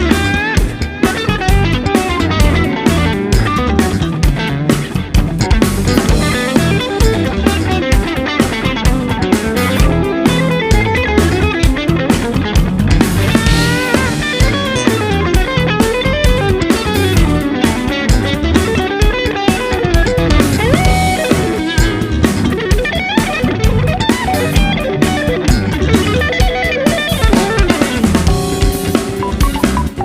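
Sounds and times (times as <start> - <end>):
electric guitar bending notes: 0.0 - 30.0
rock band playing: 0.0 - 30.0.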